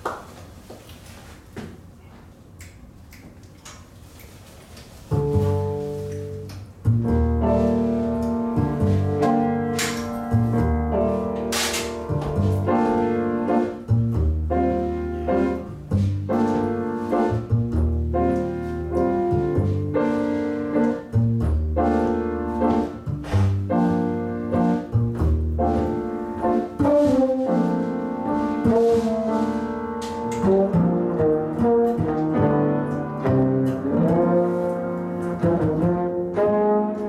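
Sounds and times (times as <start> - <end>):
piano: 0.0 - 37.0
double bass: 5.1 - 37.0
drum kit: 5.1 - 37.0.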